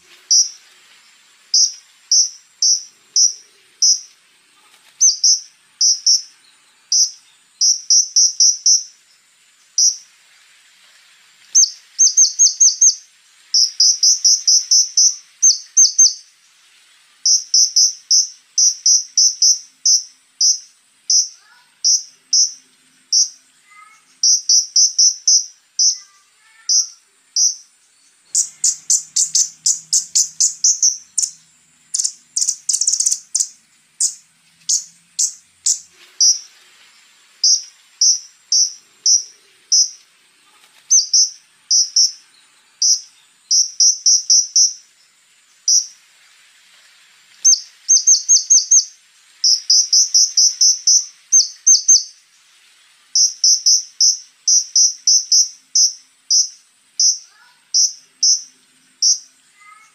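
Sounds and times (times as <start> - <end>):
bird calling in high chips: 0.0 - 9.1, 9.7 - 10.1, 11.5 - 16.3, 17.2 - 36.5, 37.4 - 42.2, 42.8 - 44.9, 45.6 - 46.0, 47.4 - 52.2, 53.1 - 59.9
faint high insect hum: 0.0 - 59.9.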